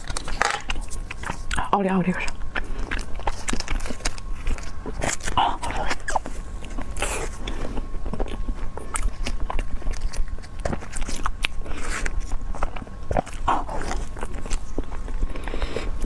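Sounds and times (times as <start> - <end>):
mouth chewing with wet clicks: 0.0 - 16.0.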